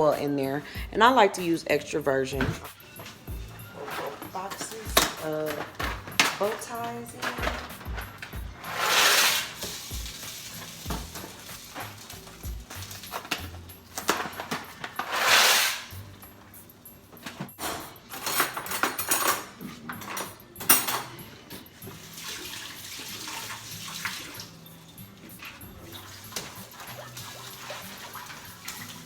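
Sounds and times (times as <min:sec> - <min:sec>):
pots and utensils clinking: 0:02.3 - 0:29.0.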